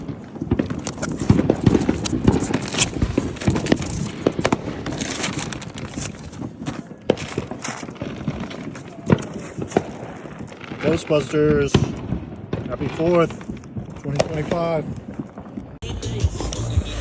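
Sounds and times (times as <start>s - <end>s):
firework launch thumps and bangs: 0.0s - 15.8s.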